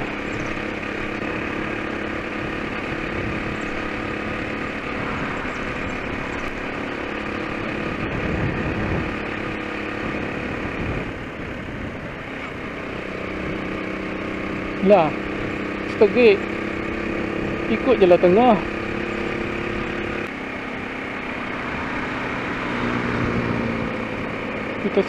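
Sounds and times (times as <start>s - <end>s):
motorcycle engine droning: 0.0s - 25.0s
road noise: 0.0s - 25.0s.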